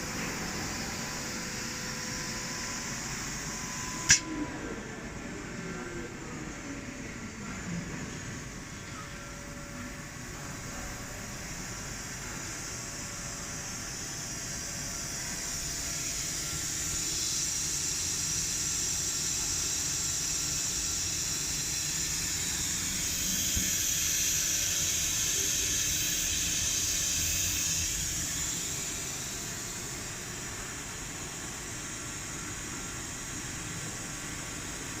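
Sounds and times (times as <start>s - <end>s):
engraving machine spindle hiss: 0.0s - 4.2s, 9.8s - 34.9s.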